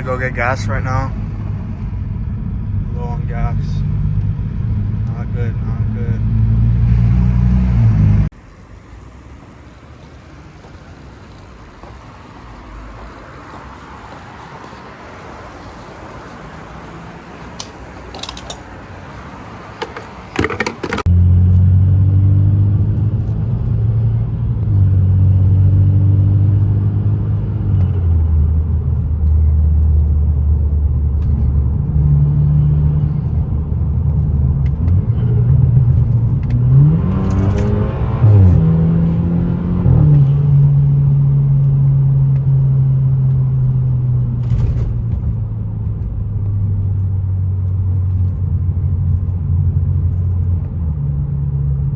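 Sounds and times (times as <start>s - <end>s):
car engine running and revving: 0.0s - 13.7s, 20.8s - 51.9s.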